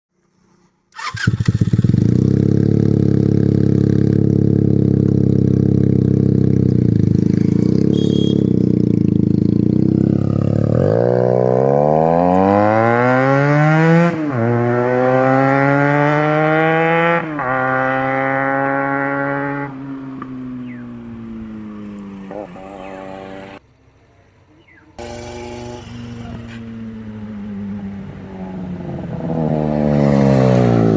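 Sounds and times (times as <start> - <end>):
motorcycle engine idling and revving: 0.9 - 30.9.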